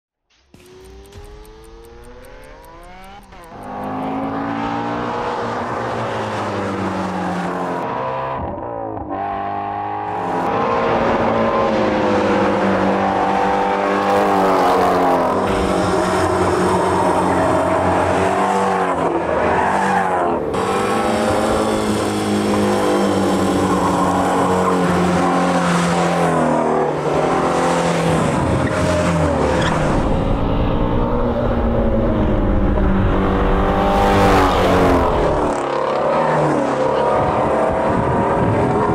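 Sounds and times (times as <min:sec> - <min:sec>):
car engine revving: 0:00.4 - 0:38.9.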